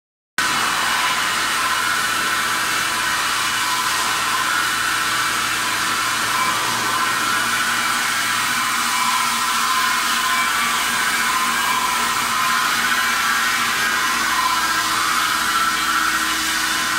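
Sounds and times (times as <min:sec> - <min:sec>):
machine grinding metal: 0:00.4 - 0:16.9.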